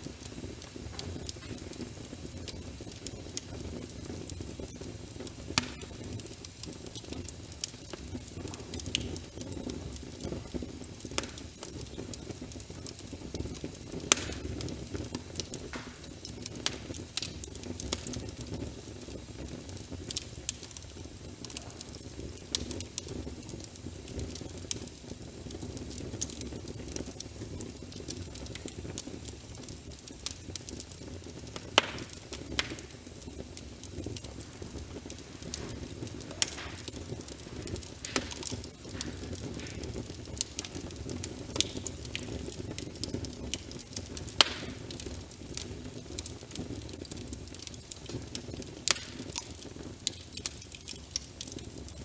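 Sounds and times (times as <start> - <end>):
rain pattering: 0.0 - 52.0
wood fire crackling and popping: 0.0 - 52.0.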